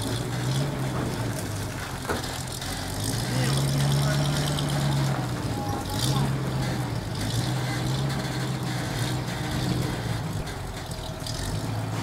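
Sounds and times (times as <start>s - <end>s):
road machinery engine humming: 0.0s - 12.0s.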